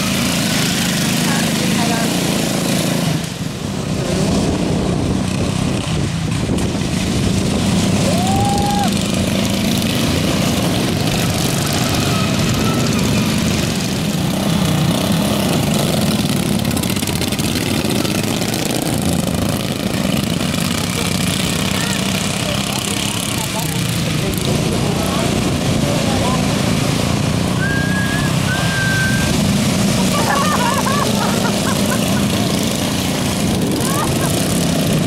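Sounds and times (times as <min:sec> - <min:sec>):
small petrol engines running: 0:00.0 - 0:35.0.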